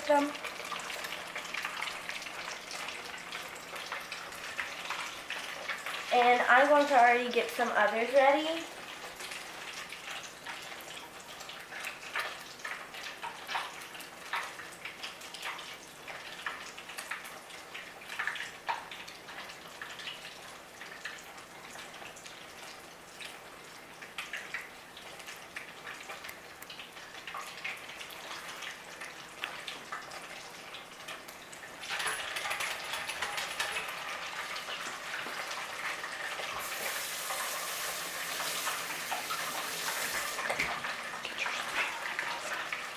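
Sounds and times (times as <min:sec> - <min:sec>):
oil crackling in a deep fryer: 0:00.0 - 0:42.9.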